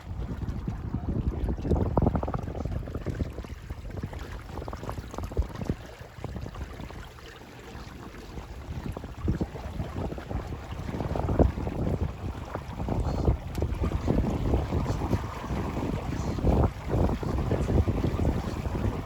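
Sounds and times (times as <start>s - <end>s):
water splashing along hull: 0.0s - 19.0s
wind buffeting microphone: 0.0s - 19.0s.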